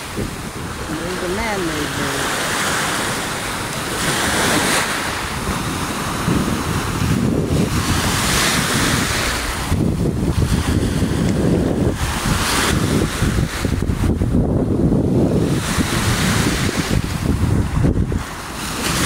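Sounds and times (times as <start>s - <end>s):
waves washing against shore: 0.0s - 19.0s
wind buffeting microphone: 0.0s - 19.0s.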